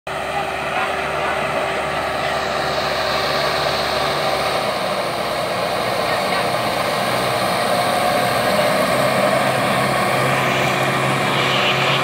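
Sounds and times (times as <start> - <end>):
tractor diesel engine under load: 0.1 - 12.0.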